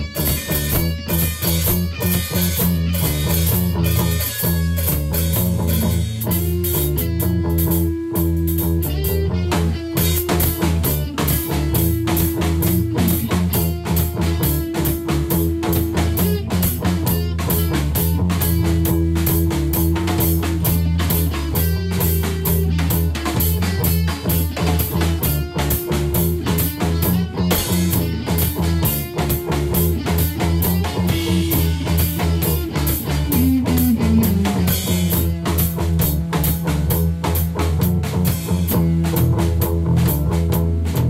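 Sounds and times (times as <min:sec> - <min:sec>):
bass guitar: 0:00.0 - 0:41.0
drum kit beat: 0:00.0 - 0:41.0
electric guitar: 0:00.0 - 0:41.0.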